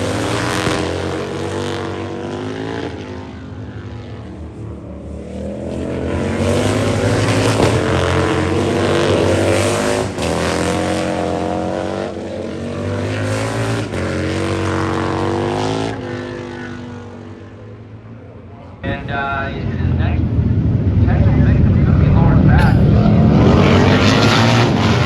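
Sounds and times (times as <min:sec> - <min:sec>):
race motorcycles passing: 0:00.0 - 0:25.0.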